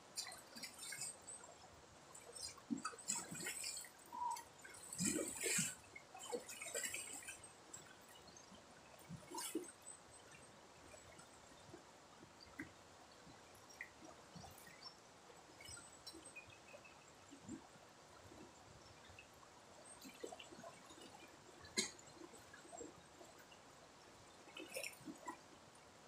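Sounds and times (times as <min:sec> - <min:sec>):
faint river water trickling: 0:00.0 - 0:26.0
small drips and ticks: 0:00.0 - 0:26.0.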